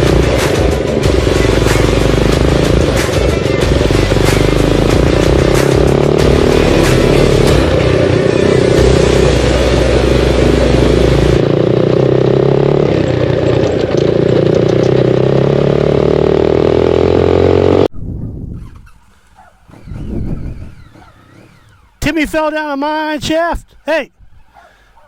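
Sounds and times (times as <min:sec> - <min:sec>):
dirt bike engine running: 0:00.0 - 0:17.9, 0:19.4 - 0:22.3.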